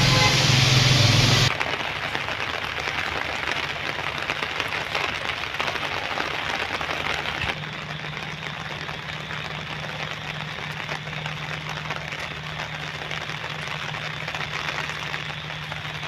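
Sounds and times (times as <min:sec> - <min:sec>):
light rain patter: 0:00.0 - 0:16.0.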